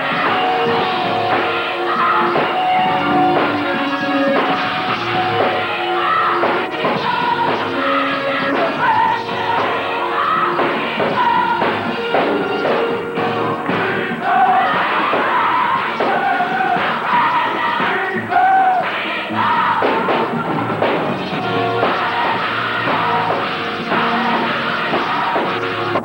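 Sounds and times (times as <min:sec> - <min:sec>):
band music with singing: 0:00.0 - 0:26.0.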